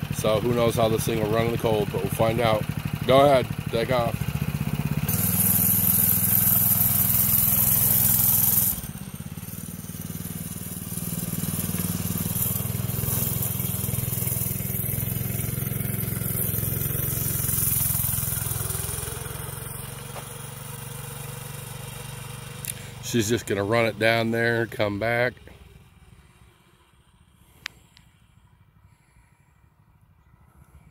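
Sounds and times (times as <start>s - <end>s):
mini bike engine revving: 0.0s - 28.4s.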